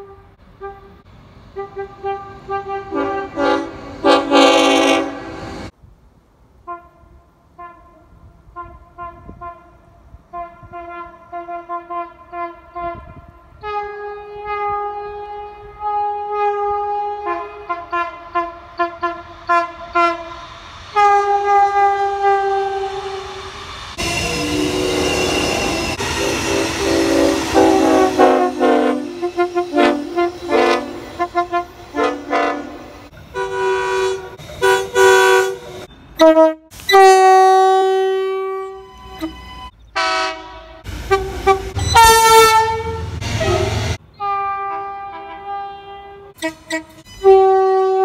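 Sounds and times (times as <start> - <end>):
train horn toots and blasts: 0.0 - 5.7, 6.6 - 23.4, 24.0 - 48.0.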